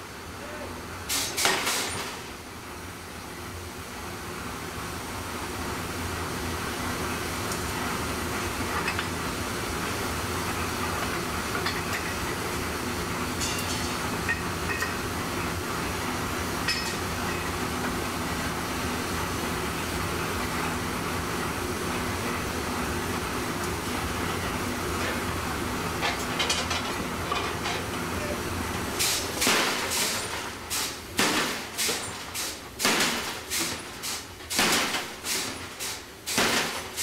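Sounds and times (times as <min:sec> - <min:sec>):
machinery hum: 0:00.0 - 0:37.0.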